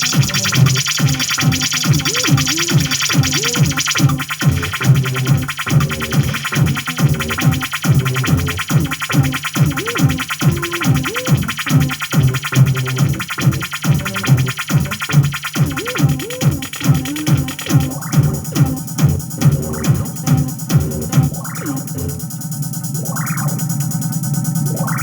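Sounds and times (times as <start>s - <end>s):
fast electronic pulsing: 0.0s - 25.0s.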